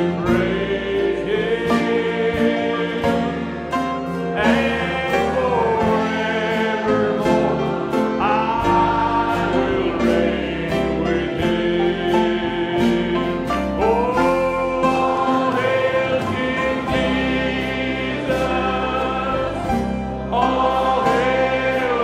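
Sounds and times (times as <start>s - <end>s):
instrumental accompaniment: 0.0s - 22.0s
man singing a hymn: 0.0s - 22.0s.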